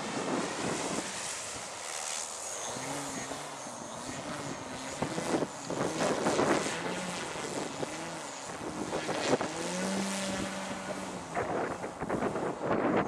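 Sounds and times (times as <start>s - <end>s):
wind buffeting microphone: 0.0s - 1.7s, 4.1s - 13.0s
model plane propeller drone: 0.0s - 13.0s.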